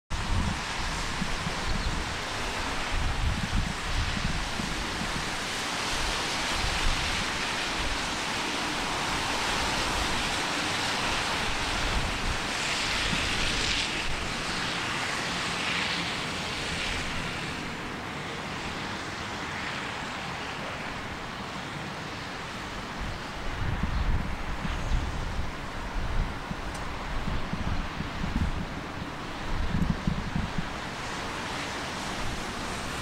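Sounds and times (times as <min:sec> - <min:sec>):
wind rumble on microphone: 0:00.1 - 0:33.0
wind rushing hiss: 0:00.1 - 0:33.0.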